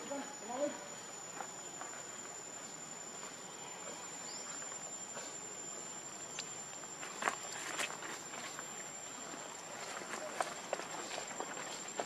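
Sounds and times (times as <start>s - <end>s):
faint outdoor hiss: 0.0s - 12.0s
high-pitched insect drone: 0.0s - 12.0s.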